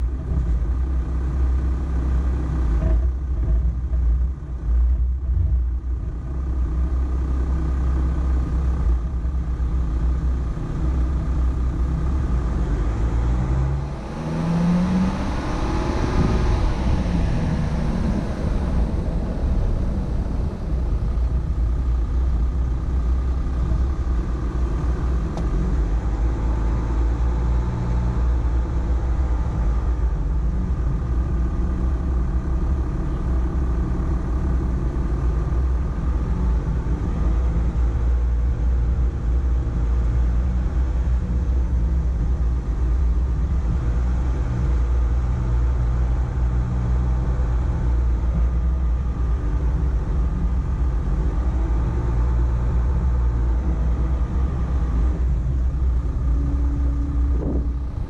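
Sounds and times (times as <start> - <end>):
pickup engine running low: 0.0 - 58.0.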